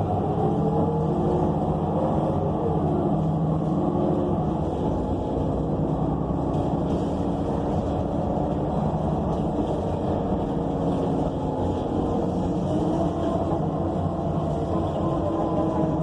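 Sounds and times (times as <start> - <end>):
bus engine hum from inside: 0.0 - 16.0.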